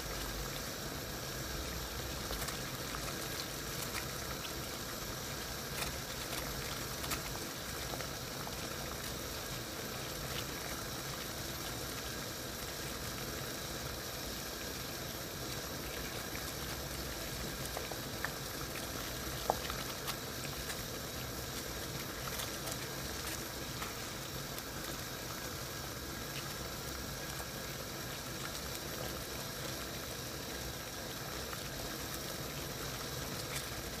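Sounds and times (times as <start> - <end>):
water boiling and bubbling: 0.0 - 34.0.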